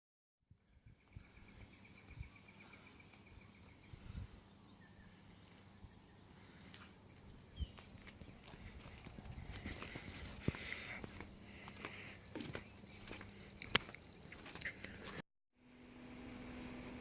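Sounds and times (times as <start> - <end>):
insects trilling chorus: 0.5 - 15.2
lower pulsing insect trill: 0.5 - 17.0.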